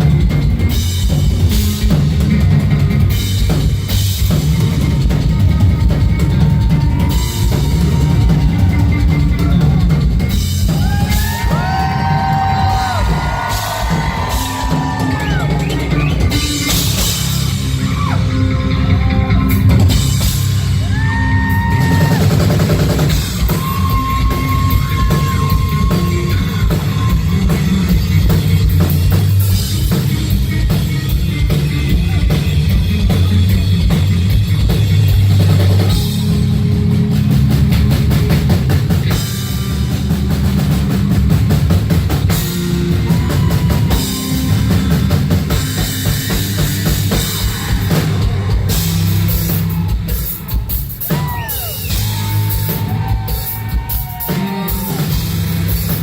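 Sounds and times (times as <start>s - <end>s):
pounding drum kit: 0.0s - 56.0s.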